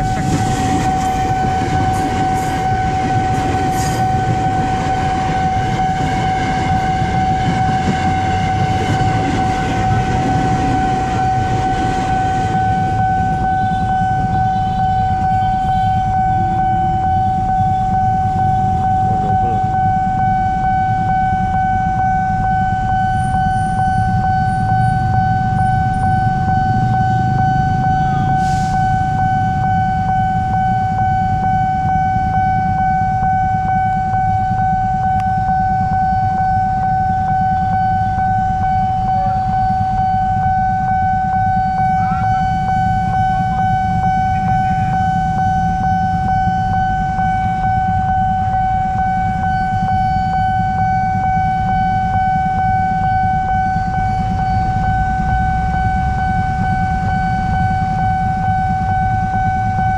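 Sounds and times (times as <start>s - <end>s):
level crossing alarm tone: 0.0s - 59.9s.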